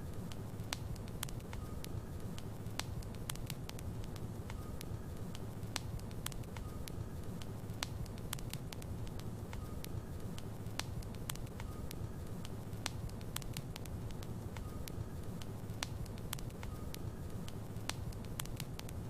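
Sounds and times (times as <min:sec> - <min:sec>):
wood crackling and popping: 0:00.0 - 0:19.0
fire rumbling: 0:00.1 - 0:19.0.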